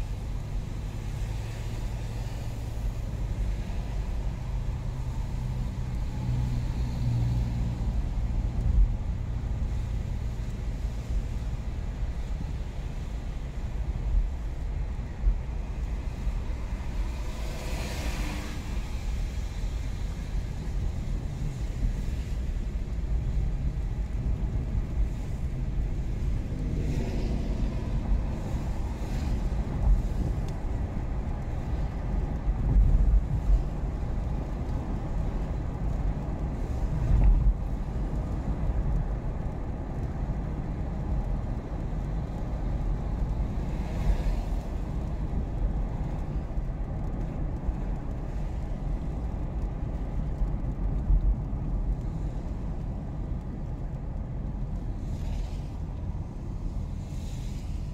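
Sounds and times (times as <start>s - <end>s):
car road and engine rumble: 0.0s - 57.9s.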